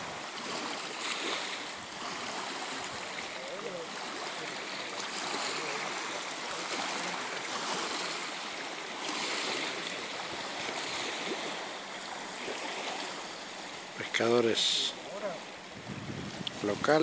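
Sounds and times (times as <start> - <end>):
waves lapping against rocky shore: 0.0 - 17.0.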